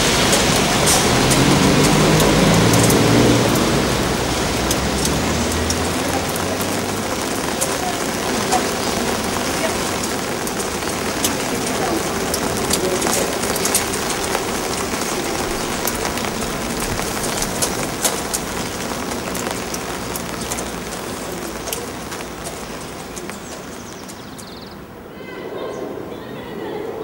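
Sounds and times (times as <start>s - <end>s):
rain-like patter with ticks: 0.0s - 25.1s.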